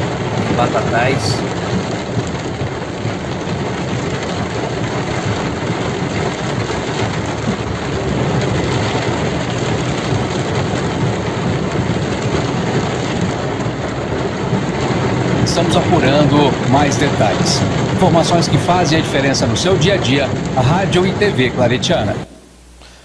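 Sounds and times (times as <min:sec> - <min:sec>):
car engine running: 0:00.0 - 0:23.0
heavy rain on car roof: 0:00.0 - 0:23.0
tyres through floodwater: 0:00.0 - 0:23.0.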